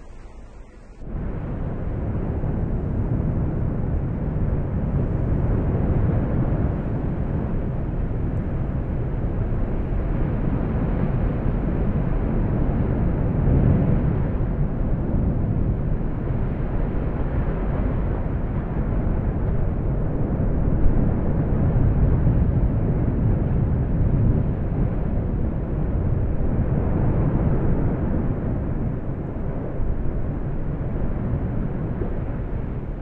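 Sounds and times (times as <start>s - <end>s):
volcanic eruption low rumble: 0.0s - 33.0s.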